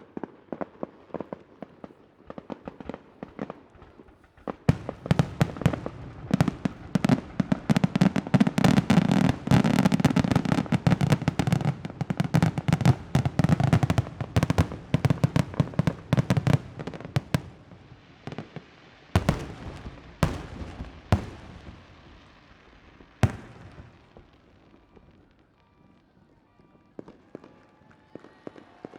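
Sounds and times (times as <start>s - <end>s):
fireworks bangs and crackling: 0.0s - 28.9s.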